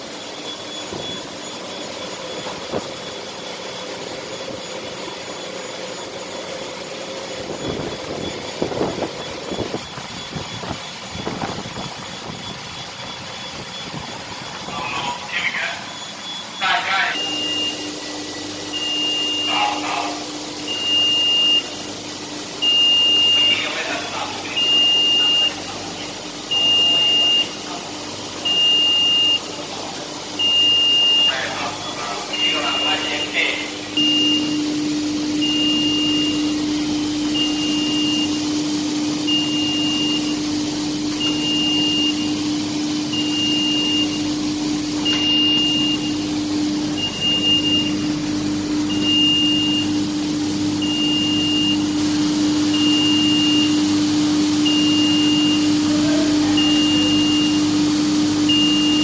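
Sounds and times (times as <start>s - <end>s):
alarm buzzer beeping: 0.0s - 59.0s
faint steady whine: 0.0s - 59.0s.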